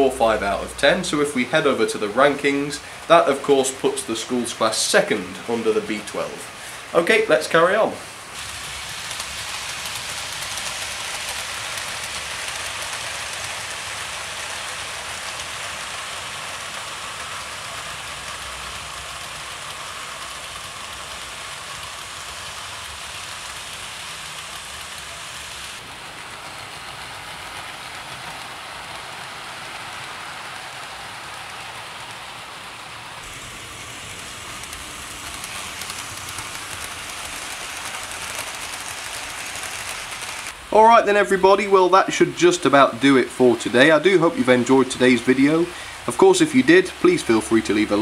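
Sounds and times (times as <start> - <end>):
model train wheels whirring on rails: 0.0 - 48.0.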